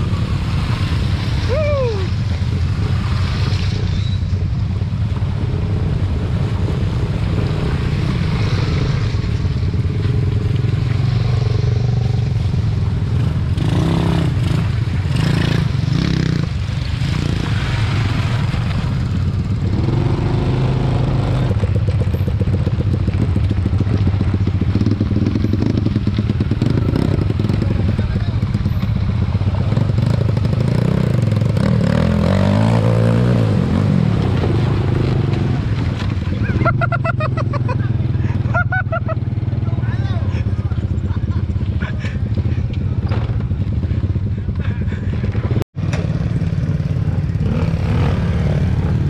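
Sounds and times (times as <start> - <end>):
motorcycle engines running: 0.0 - 49.0.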